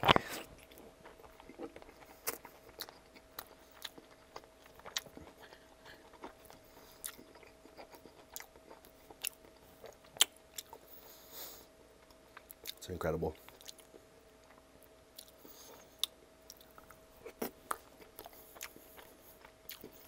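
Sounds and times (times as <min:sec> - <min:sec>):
wet chewing sounds: 0:00.0 - 0:20.0.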